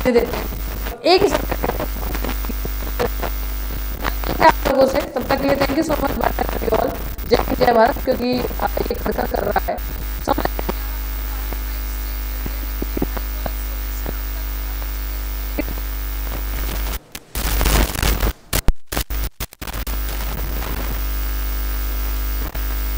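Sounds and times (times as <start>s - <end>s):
electrical mains hum: 0.0s - 22.9s
loud crackling: 0.0s - 22.9s.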